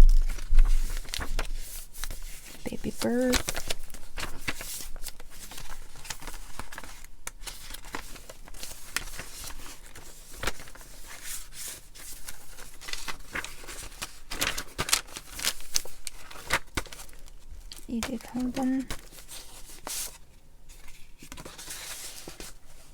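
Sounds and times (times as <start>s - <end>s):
paper pages rustling: 0.0s - 22.9s.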